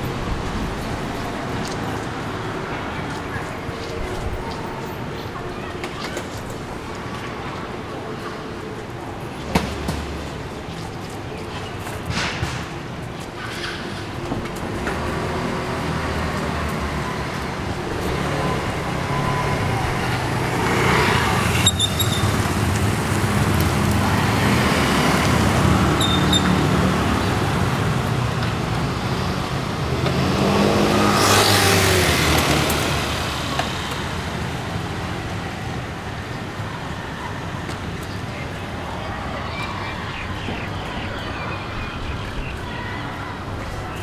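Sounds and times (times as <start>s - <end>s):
rumble of motor vehicles: 0.0s - 44.0s
vehicles passing by close: 0.0s - 44.0s.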